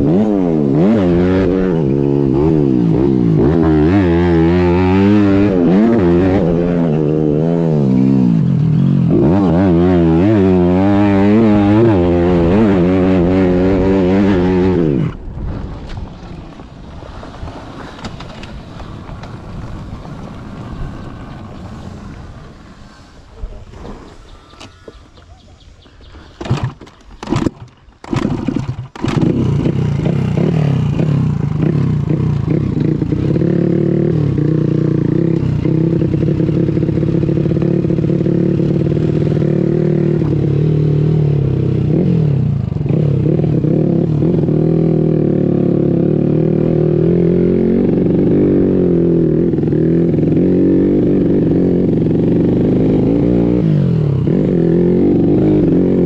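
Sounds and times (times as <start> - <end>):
motorcycle engine revving: 0.0 - 15.4, 17.1 - 56.0.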